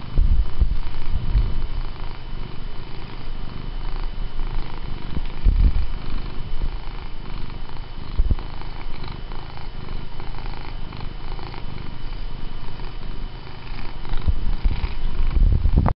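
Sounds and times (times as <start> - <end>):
cat purring: 0.0 - 15.9.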